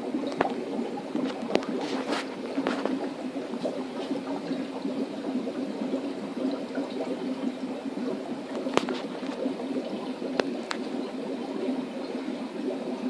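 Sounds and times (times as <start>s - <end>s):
aquarium water gurgling: 0.0s - 13.0s.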